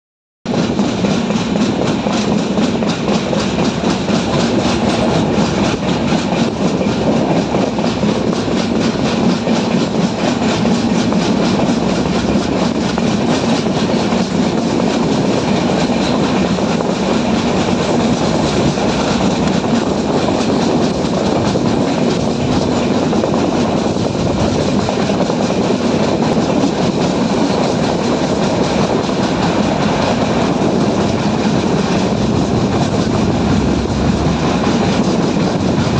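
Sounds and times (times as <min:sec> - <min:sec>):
train wheel and rail noise: 0:00.4 - 0:35.9.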